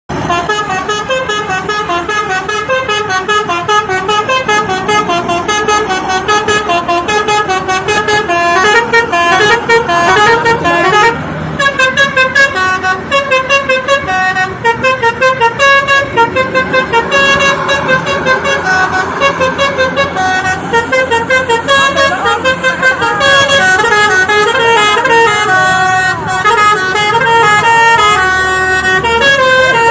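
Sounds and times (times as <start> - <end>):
multi-tone musical vehicle horn: 0.1 - 29.9.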